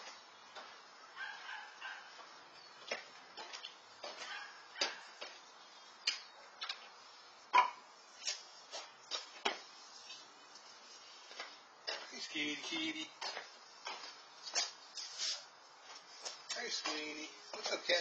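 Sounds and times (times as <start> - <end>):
footsteps on concrete: 0.0 - 7.0, 8.2 - 18.0.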